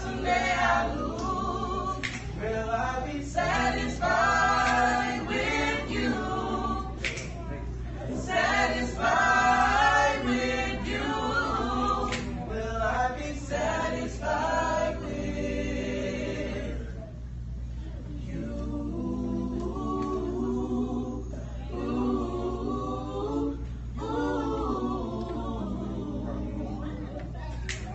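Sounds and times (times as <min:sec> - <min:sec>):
vocal group singing in harmony: 0:00.0 - 0:17.2, 0:18.1 - 0:27.4
steady low hum: 0:00.0 - 0:27.9.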